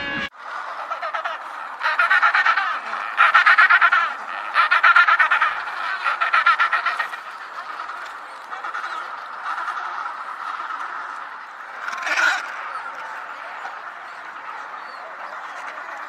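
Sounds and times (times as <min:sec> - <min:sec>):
penguins braying: 0:00.0 - 0:16.0.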